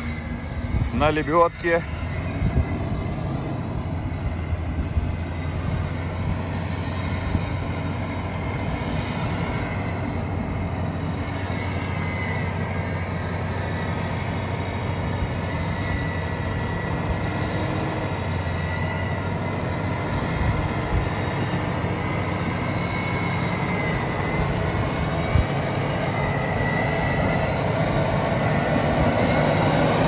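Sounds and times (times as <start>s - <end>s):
engine low hum: 0.0s - 30.0s.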